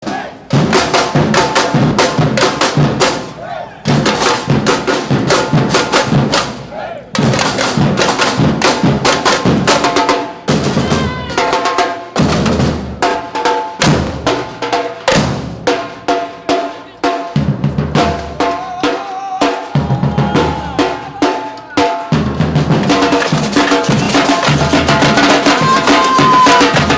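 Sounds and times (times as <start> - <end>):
drum band playing fast rhythm: 0.0 - 26.9.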